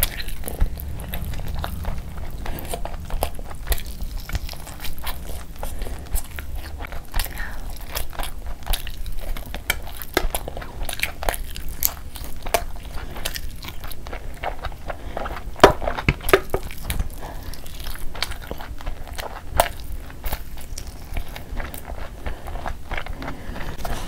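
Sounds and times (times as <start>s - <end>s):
chewing meat off the bone: 0.0s - 24.0s.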